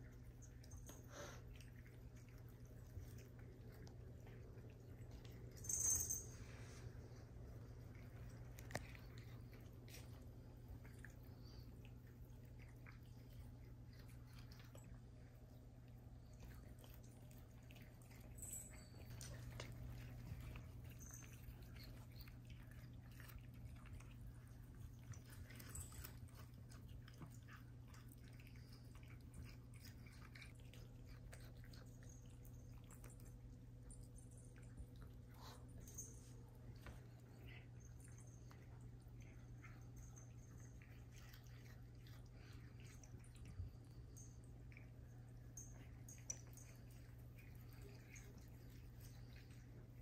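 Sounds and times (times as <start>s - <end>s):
cats chewing grass: 0.0s - 50.0s.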